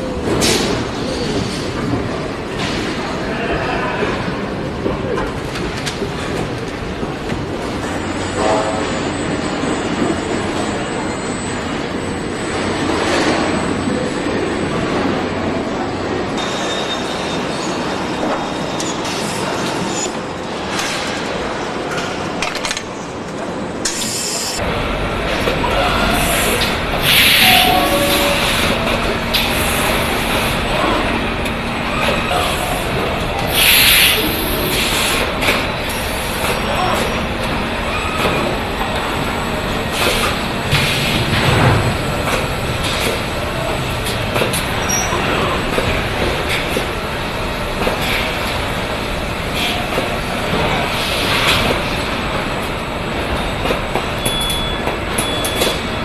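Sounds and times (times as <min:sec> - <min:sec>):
factory machinery din: 0:00.0 - 0:56.0.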